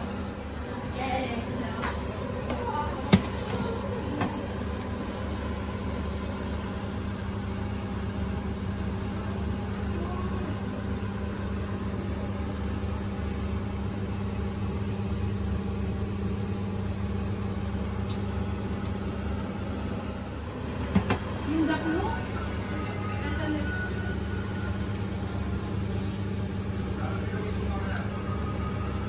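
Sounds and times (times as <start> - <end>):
appliance fan humming: 0.0 - 29.0.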